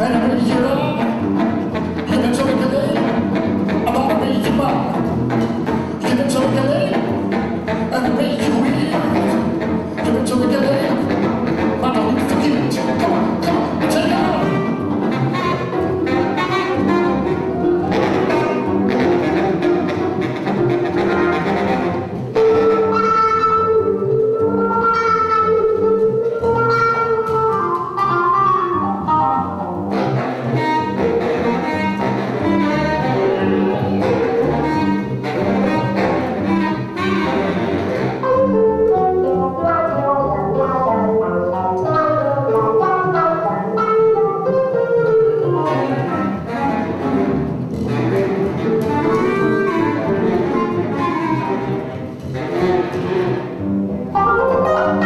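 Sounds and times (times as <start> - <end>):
jazz guitar: 0.0 - 55.0
upright double bass: 0.0 - 55.0.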